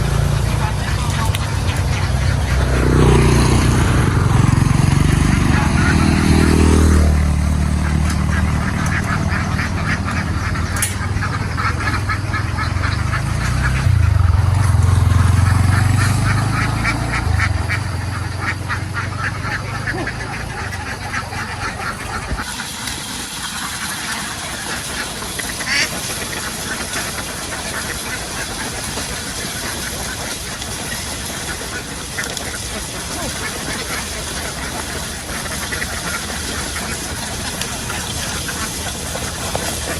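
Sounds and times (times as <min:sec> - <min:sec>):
ducks quacking: 0:00.0 - 0:22.8, 0:23.4 - 0:39.9
engine humming: 0:00.0 - 0:39.9.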